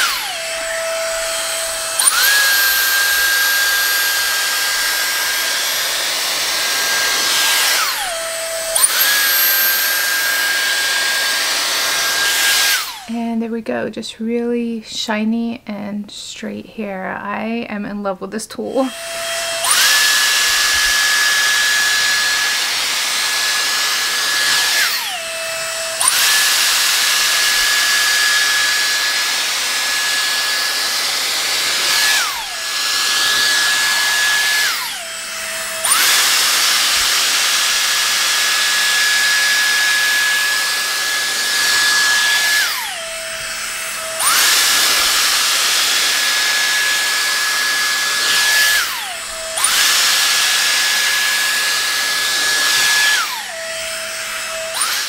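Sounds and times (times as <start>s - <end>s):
hair straightener motor whine: 0.0s - 13.3s, 18.7s - 55.0s.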